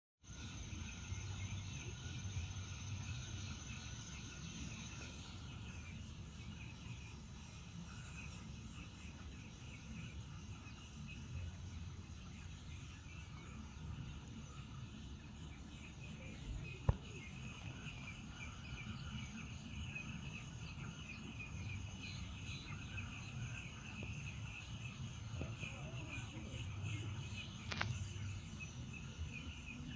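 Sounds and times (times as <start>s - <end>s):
insects trilling: 0.3s - 29.9s.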